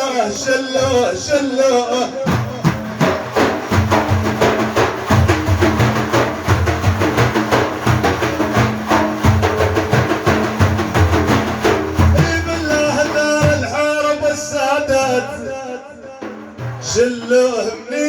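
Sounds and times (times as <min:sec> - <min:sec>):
frame drums beating: 0:02.0 - 0:15.3, 0:16.2 - 0:18.0.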